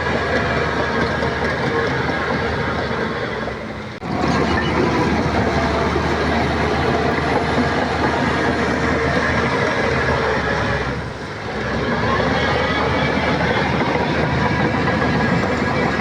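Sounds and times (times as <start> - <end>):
bulldozer diesel engine running: 0.0 - 16.0
steel tracks clattering: 0.0 - 16.0.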